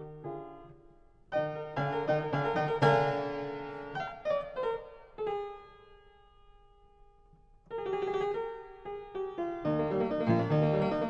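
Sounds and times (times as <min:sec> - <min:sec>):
slow solo piano: 0:00.0 - 0:11.0.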